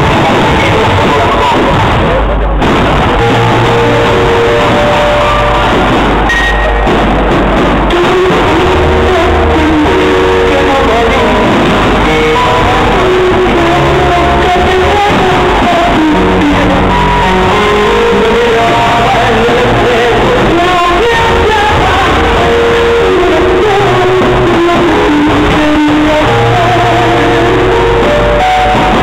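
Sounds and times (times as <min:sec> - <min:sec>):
guitar: 0:00.0 - 0:29.0
loud rock music: 0:00.0 - 0:29.0
person singing: 0:00.0 - 0:29.0.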